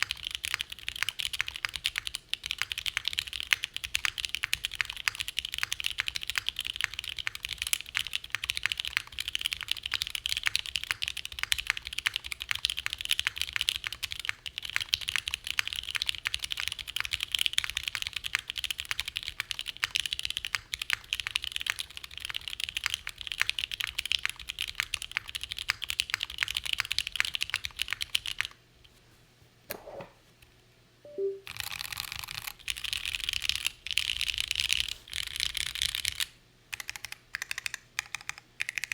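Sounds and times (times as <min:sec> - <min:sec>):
fast typing on mechanical keyboard: 0:00.0 - 0:28.6, 0:31.6 - 0:38.9.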